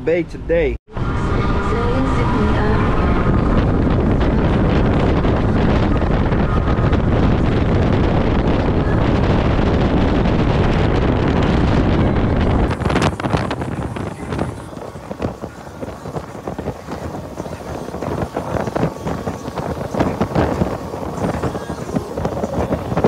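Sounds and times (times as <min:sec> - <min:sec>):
wind buffeting microphone: 0:00.4 - 0:23.0
motorboat running fast: 0:00.9 - 0:23.0.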